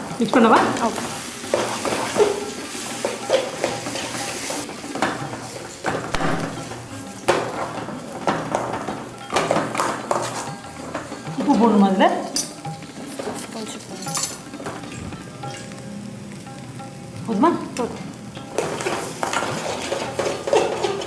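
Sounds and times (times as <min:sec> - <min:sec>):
metal spoon scraping a pan: 0:00.0 - 0:15.8, 0:18.4 - 0:21.0
light sizzle from pan: 0:00.0 - 0:21.0.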